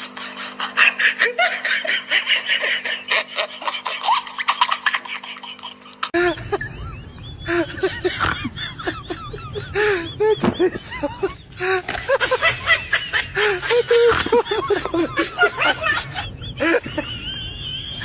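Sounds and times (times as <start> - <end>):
people laughing: 0.0 - 18.0
steady hum: 0.0 - 18.0.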